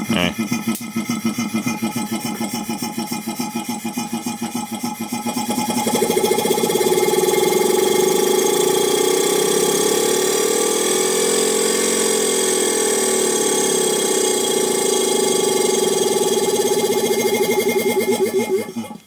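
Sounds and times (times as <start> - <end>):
refrigeration compressor drone: 0.0 - 19.0.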